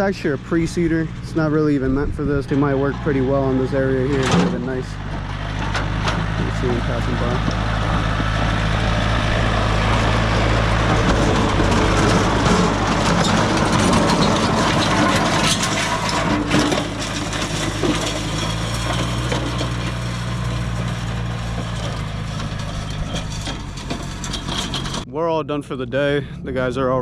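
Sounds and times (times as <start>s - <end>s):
implement crunching soil: 0.0s - 25.0s
tractor running: 0.0s - 25.1s.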